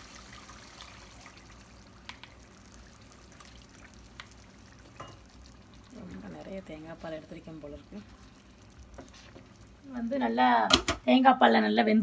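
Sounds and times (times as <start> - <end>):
liquid pouring into pan: 0.0 - 10.3.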